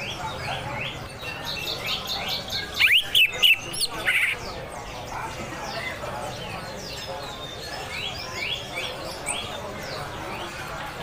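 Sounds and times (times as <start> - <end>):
bird singing: 0.0 - 10.6.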